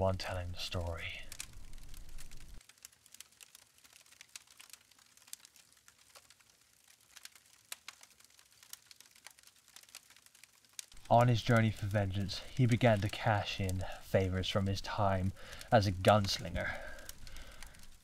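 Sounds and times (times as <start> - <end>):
small fire crackling: 0.0 - 18.0.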